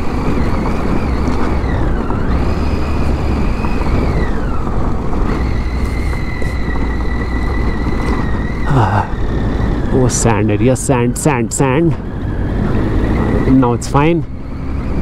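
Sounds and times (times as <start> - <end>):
motorcycle engine running: 0.0 - 15.0
wind and tyre noise: 0.0 - 15.0.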